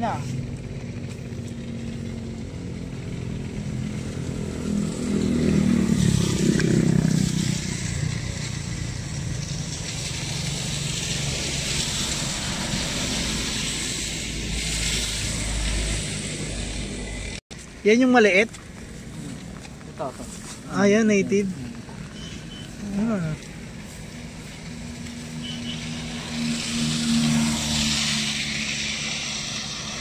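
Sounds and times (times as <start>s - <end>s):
engine running: 0.0s - 17.8s, 18.4s - 30.0s.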